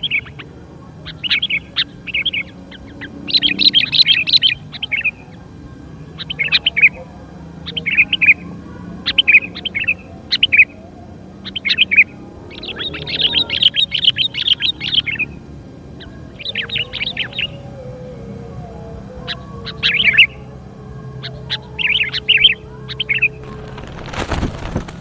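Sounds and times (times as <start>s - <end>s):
birds chirping and chattering: 0.0s - 25.0s.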